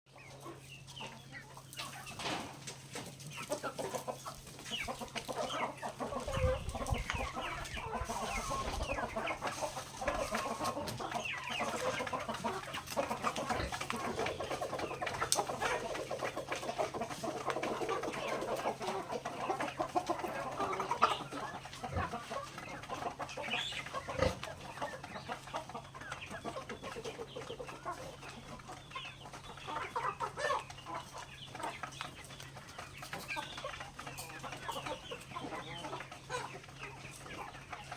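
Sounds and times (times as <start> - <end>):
chickens clucking: 0.1 - 37.9.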